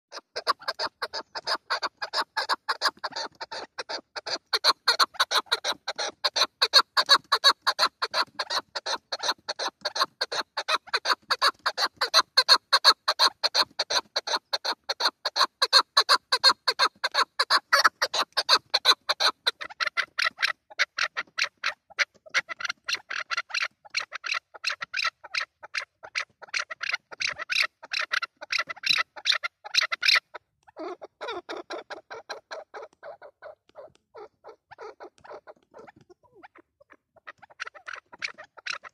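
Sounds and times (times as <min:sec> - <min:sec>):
partridge chuck calls: 0:00.1 - 0:38.9.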